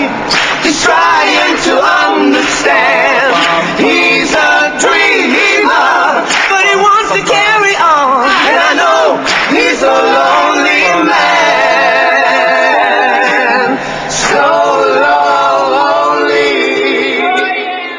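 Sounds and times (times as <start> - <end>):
men singing in harmony: 0.0 - 17.9.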